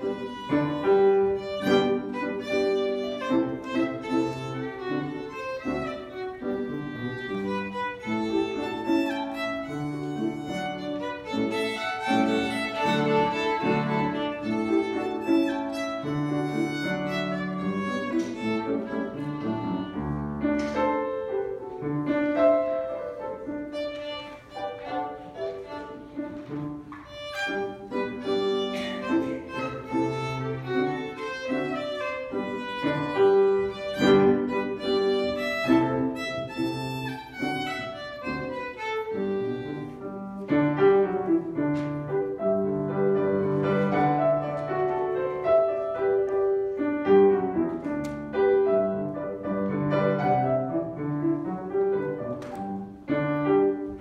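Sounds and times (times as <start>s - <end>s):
piano chords: 0.0s - 54.0s
violin melody: 0.0s - 54.0s.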